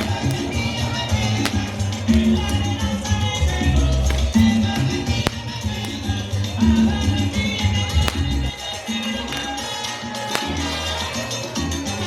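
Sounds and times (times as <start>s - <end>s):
upbeat latin dance music: 0.0s - 12.0s.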